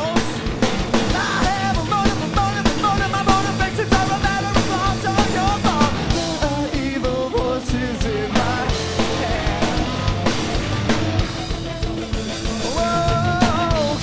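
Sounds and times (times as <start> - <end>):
person singing: 0.0 - 10.6, 12.6 - 14.0
drum beat: 0.0 - 14.0
rock band playing: 0.0 - 14.0.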